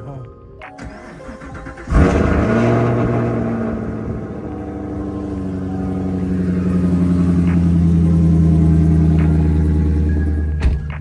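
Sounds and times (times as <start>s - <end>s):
car engine idling: 0.8s - 11.0s.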